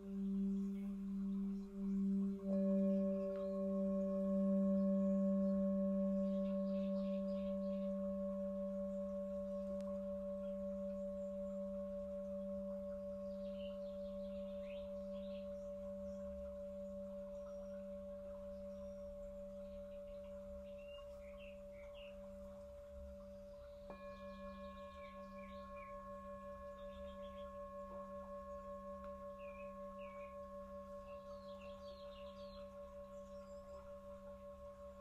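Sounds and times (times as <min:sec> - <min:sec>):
singing bowl ringing: 0:00.0 - 0:35.0.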